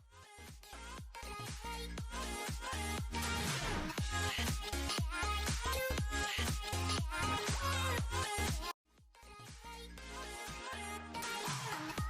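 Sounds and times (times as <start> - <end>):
electronic dance music: 0.0 - 8.7, 9.5 - 12.0.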